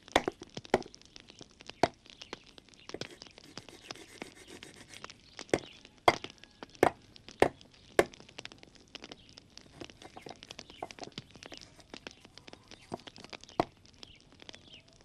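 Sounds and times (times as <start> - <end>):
twig fire crackling: 0.0 - 15.0.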